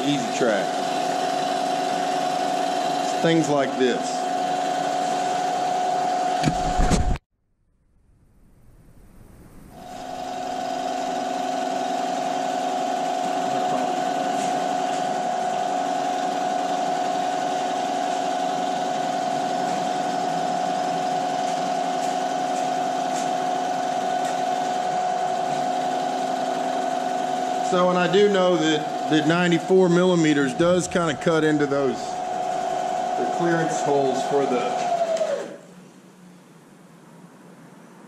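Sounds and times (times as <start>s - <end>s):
milling machine cutting metal: 0.0s - 7.0s, 9.8s - 35.6s.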